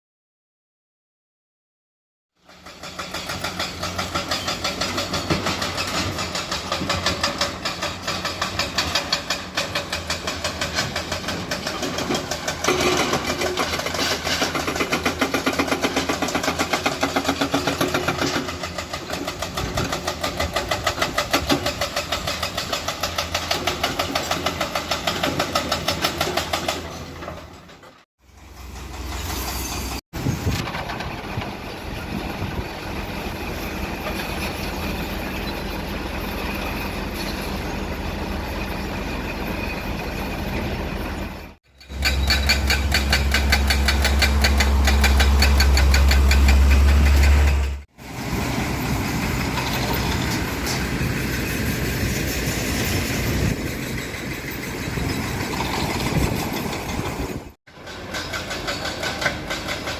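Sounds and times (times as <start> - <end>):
concrete mixer truck diesel engine: 2.4 - 59.9.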